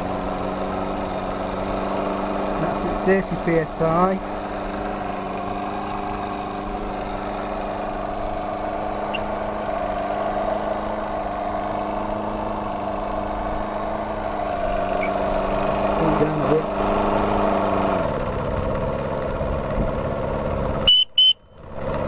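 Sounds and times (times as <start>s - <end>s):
model steam engine humming: 0.0s - 21.7s.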